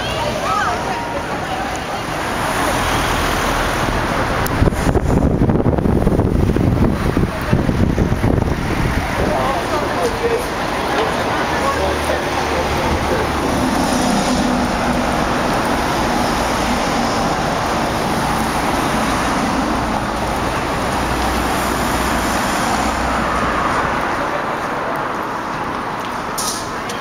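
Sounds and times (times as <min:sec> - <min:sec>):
city traffic rumble: 0:00.0 - 0:27.0.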